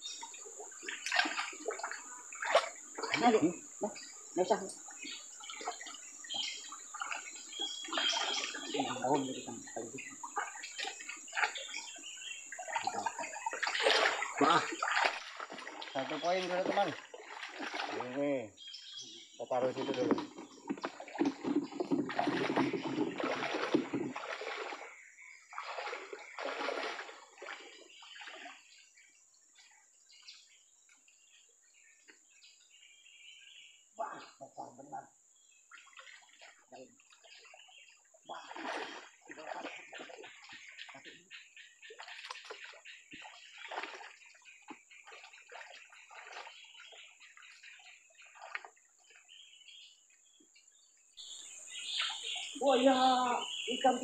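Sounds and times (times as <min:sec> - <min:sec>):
water splashing from wading: 0:00.0 - 0:30.3, 0:35.6 - 0:49.8.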